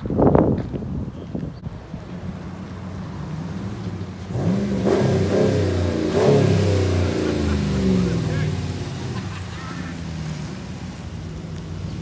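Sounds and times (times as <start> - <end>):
pickup engine revving: 2.4 - 12.0.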